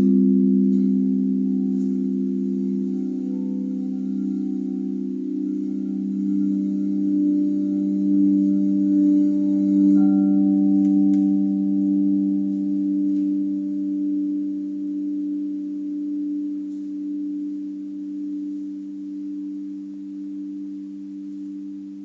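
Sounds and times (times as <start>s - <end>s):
higher singing bowl tone: 0.0s - 22.0s
singing bowls ringing low: 0.0s - 22.0s.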